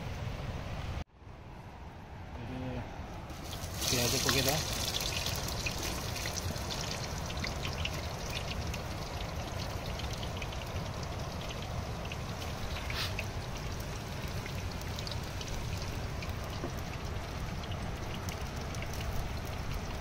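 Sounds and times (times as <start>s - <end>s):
low steady rumble: 0.0s - 20.0s
onions sizzling and crackling: 3.3s - 20.0s.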